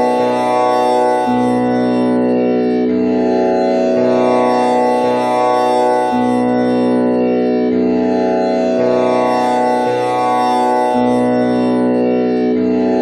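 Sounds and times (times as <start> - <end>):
tanpura drone: 0.0 - 13.0.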